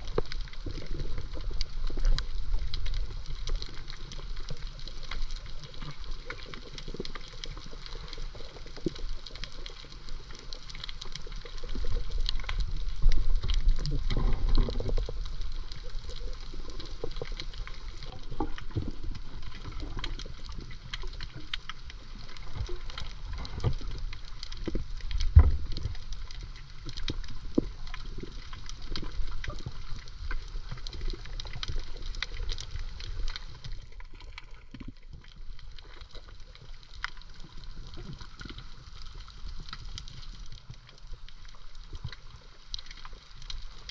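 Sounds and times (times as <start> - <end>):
crackle of small clicks: 0.0 - 43.9
water sloshing and bubbling: 0.0 - 43.9.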